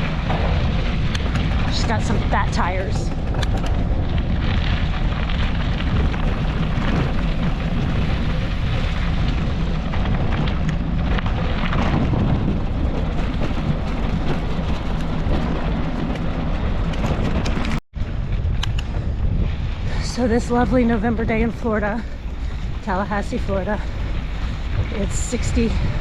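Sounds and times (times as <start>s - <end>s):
bike tyres rumbling on dirt: 0.0s - 26.0s
wind on microphone: 0.0s - 26.0s.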